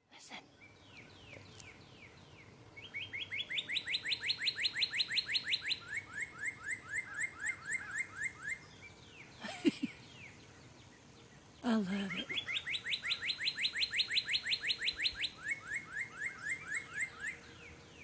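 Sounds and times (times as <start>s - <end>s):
bird singing whistled notes: 0.5s - 9.4s, 10.0s - 18.0s.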